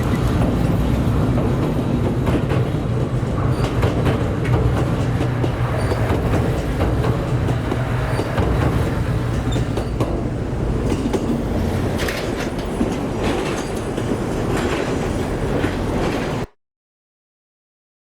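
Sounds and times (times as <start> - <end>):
train rumbling past: 0.0 - 16.5
wheels clicking over rail joints: 0.0 - 16.5.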